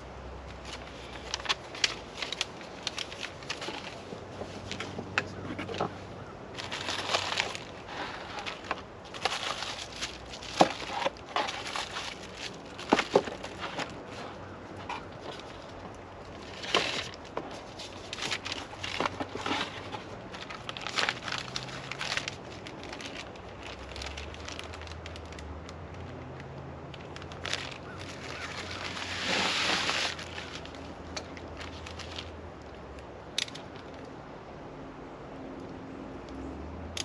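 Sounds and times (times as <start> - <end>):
wrapping crinkling and rustling: 0.5 - 34.1.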